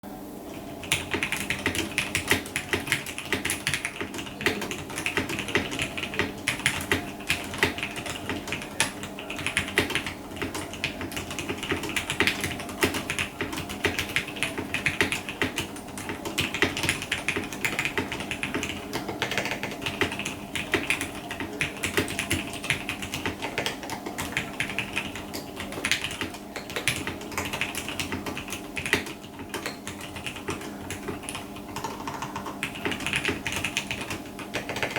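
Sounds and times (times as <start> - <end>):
mechanical keyboard typing: 0.5 - 34.9.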